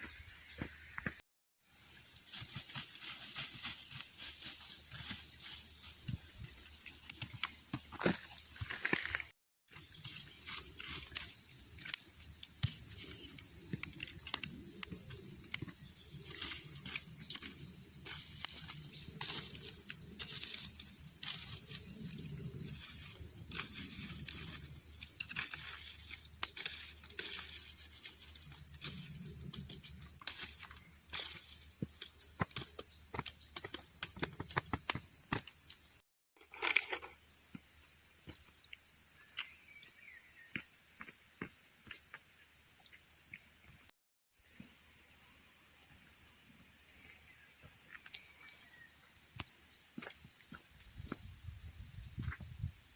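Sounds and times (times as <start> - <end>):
high-pitched insect chorus: 0.0 - 52.9.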